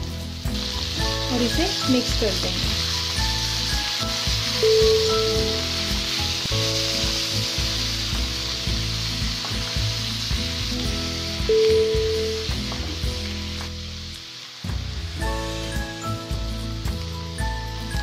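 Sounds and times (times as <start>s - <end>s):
soft background music: 0.0s - 18.0s
vegetables sizzling in oil: 0.0s - 18.0s.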